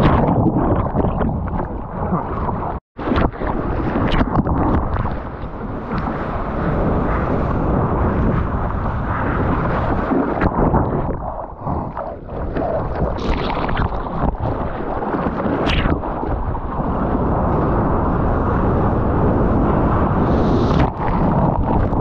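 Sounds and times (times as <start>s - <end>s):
sea water rushing and splashing: 0.0s - 22.0s
wind buffeting microphone: 0.0s - 22.0s.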